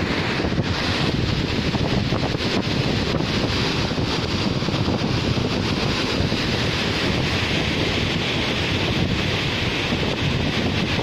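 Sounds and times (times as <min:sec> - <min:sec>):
water rushing over rocks: 0:00.0 - 0:11.0
wind buffeting microphone: 0:00.0 - 0:11.0.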